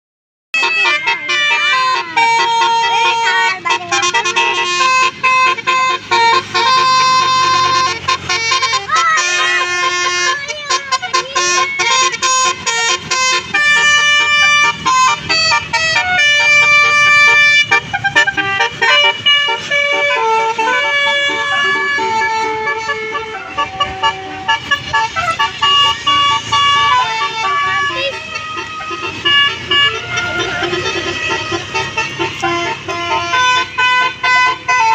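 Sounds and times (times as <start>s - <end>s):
multi-tone bus horn tune: 0.5s - 34.9s.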